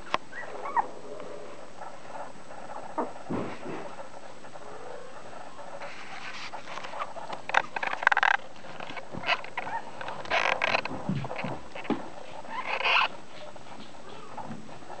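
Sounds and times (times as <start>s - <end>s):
puppies squeaking and grunting: 0.0s - 15.0s.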